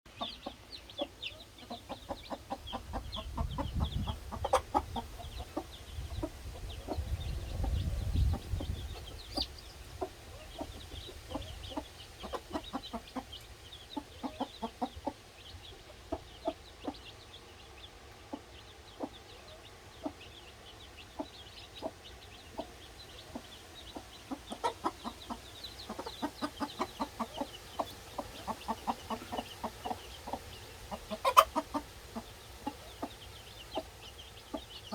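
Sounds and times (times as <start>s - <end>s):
chicks peeping: 0.1s - 34.9s
hen clucking: 0.1s - 34.9s.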